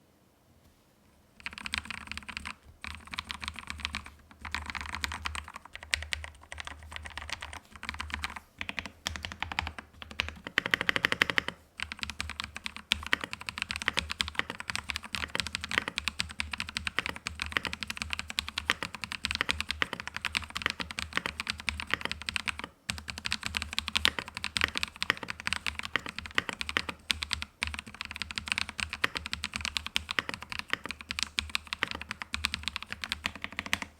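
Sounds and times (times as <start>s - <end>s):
fast mechanical keyboard typing: 1.4s - 33.9s.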